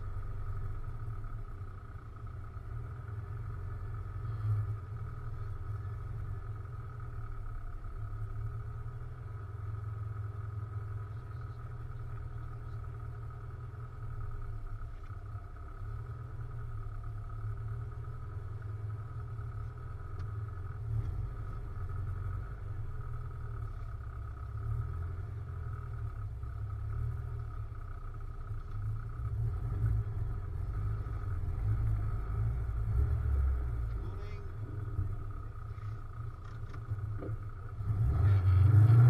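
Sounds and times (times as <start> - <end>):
car engine rumbling: 0.0 - 39.0.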